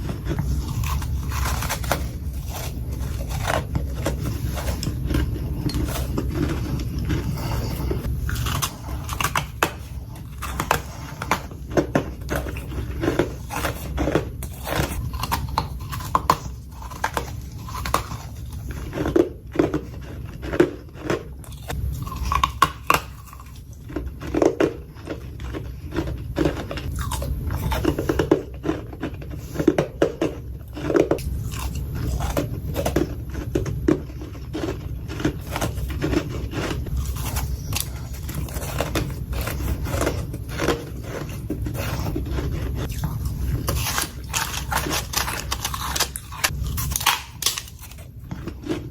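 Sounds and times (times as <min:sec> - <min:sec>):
chewing crunchy frost: 0:00.0 - 0:48.9
steady low hum: 0:00.0 - 0:48.9.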